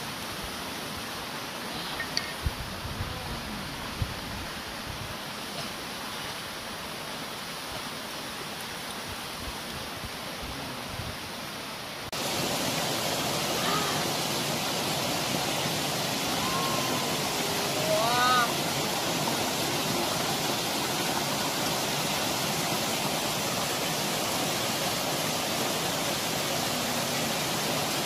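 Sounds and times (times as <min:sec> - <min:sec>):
stream and waterfall rushing: 0:00.0 - 0:28.0.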